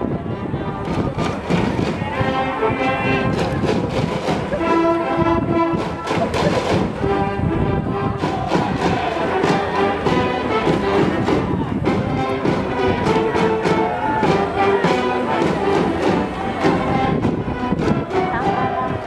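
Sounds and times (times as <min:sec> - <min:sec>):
brass band playing: 0:00.0 - 0:19.0
trumpets playing melody: 0:00.2 - 0:19.0
steady drum beat: 0:00.8 - 0:19.0.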